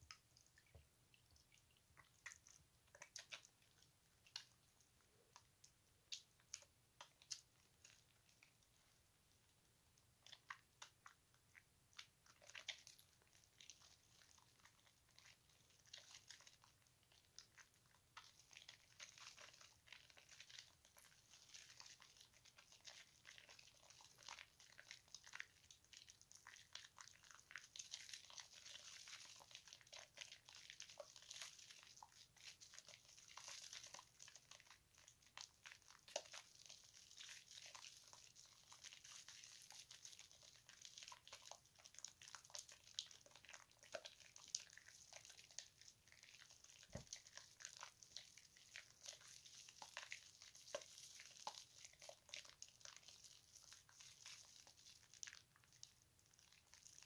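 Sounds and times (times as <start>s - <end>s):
soap foam squishing: 0.0s - 57.0s.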